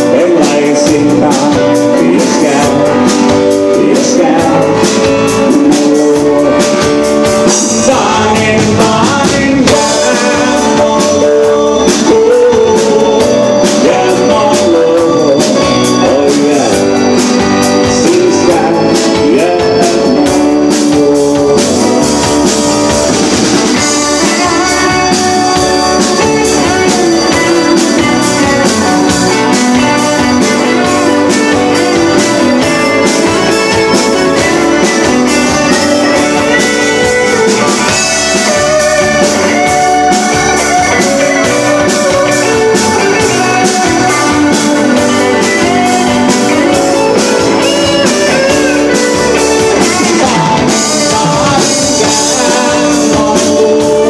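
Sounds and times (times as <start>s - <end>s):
lead electric guitar: 0.0s - 54.0s
live rock band playing: 0.0s - 54.0s
person singing: 0.0s - 54.0s.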